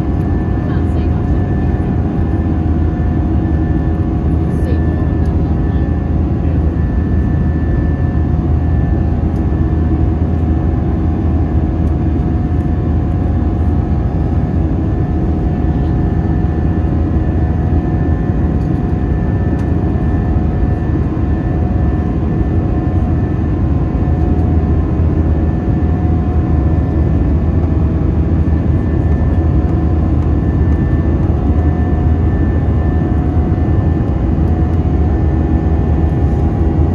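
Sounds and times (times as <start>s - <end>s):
aircraft engine drone: 0.0s - 36.9s.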